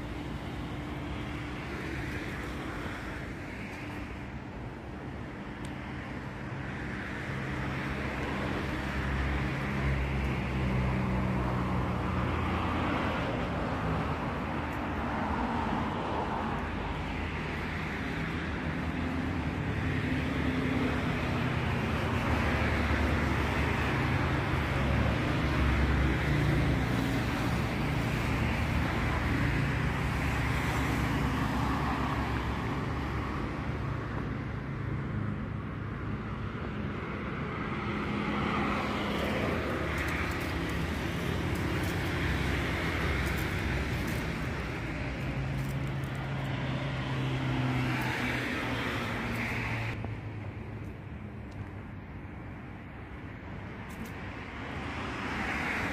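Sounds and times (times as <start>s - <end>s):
road traffic rumble: 0.0s - 55.9s.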